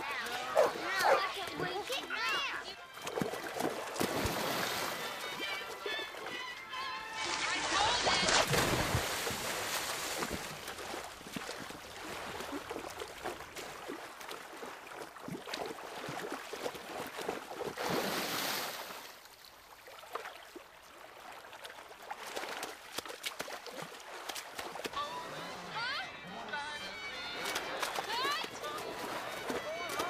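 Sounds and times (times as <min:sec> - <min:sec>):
swimmers splashing: 0:00.0 - 0:30.0.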